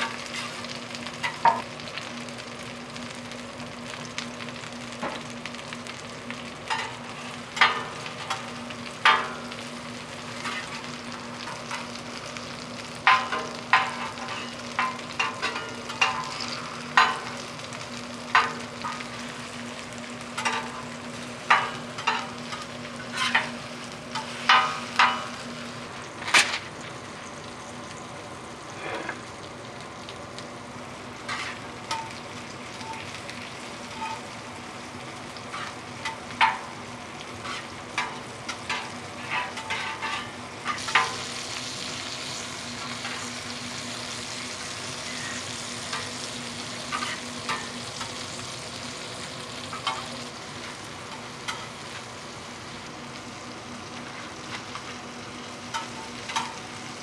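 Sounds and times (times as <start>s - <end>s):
food sizzling on griddle: 0.0s - 57.0s.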